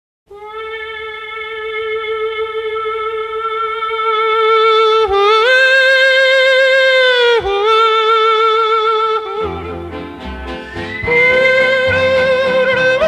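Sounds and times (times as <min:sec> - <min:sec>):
man yodeling in falsetto: 0:00.3 - 0:09.4, 0:10.6 - 0:13.0.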